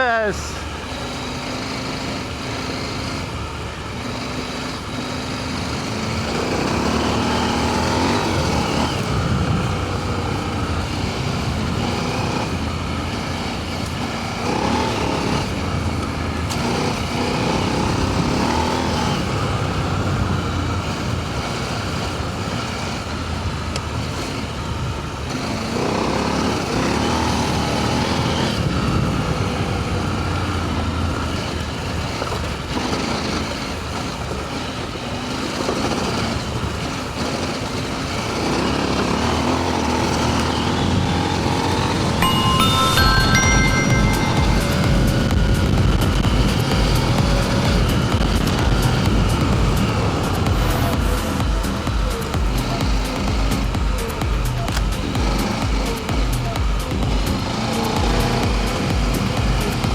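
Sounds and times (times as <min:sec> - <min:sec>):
motorcycle engine revving: 0:00.0 - 0:42.2, 0:43.1 - 0:59.9.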